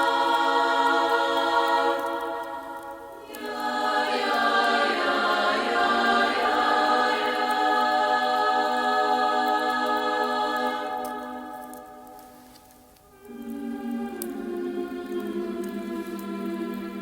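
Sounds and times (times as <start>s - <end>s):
throat singing drone: 0.0s - 11.5s, 13.1s - 17.0s.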